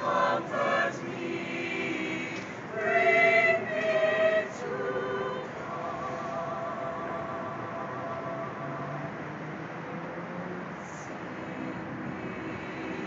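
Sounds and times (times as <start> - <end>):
choir singing a cappella: 0.0 - 9.4, 10.8 - 13.0.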